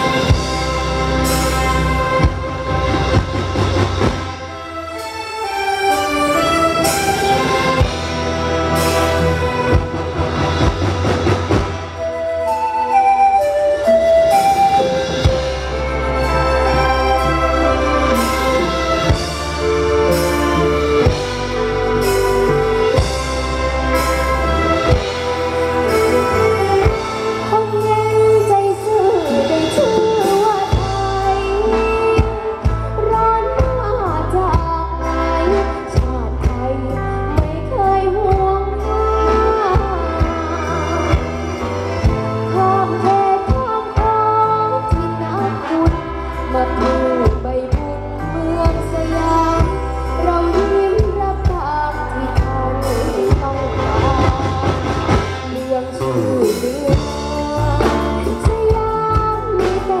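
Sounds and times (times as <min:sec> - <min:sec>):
bass line: 0:00.0 - 0:05.2, 0:06.0 - 1:00.0
drum beats: 0:00.0 - 0:34.9, 0:39.6 - 0:48.0, 0:50.5 - 1:00.0
person singing: 0:12.0 - 1:00.0.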